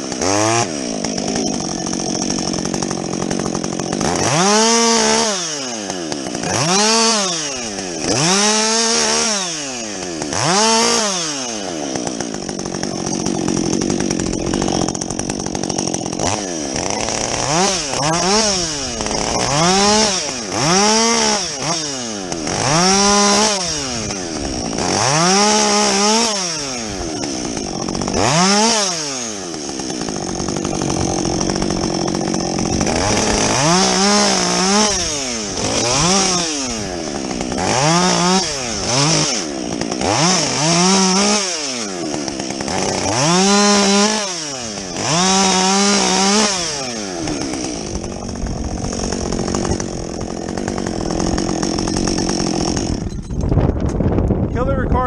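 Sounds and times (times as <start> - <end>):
chainsaw revving: 0.0 - 53.5.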